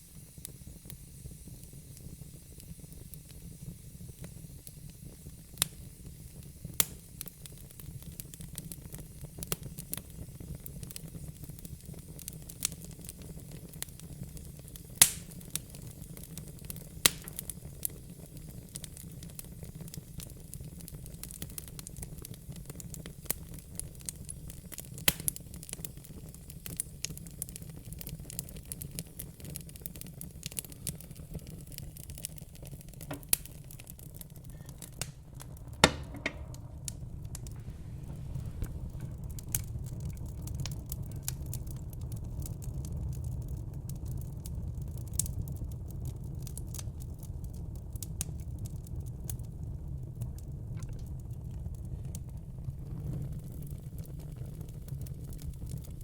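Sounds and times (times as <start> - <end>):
sharp pops of fire: 0.0 - 49.5
low rumble of burning: 0.0 - 56.0
wood fire crackling: 0.0 - 56.0.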